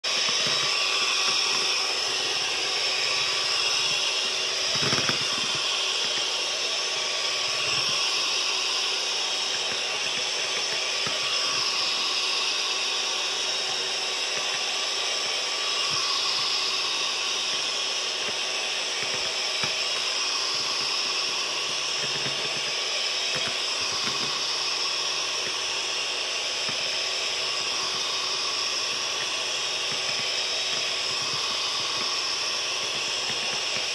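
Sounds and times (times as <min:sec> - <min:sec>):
electric hand mixer whipping cream: 0:00.0 - 0:33.9.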